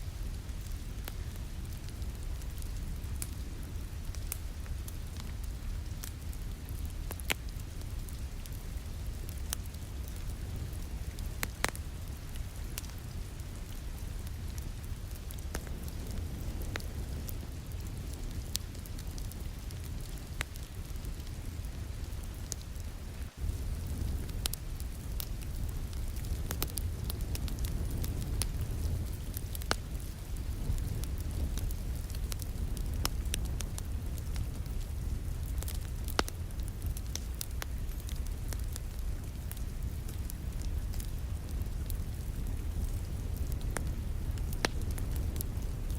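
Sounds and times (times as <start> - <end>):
low rumble of rain: 0.0 - 45.9
wood fire crackling and popping: 0.0 - 45.9.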